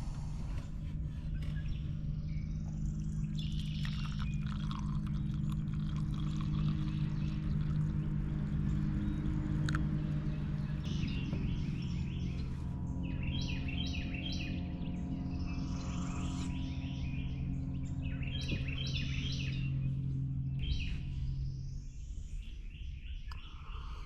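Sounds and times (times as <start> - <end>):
birds chirping: 0.0 - 24.0
low mechanical hum: 0.0 - 24.0.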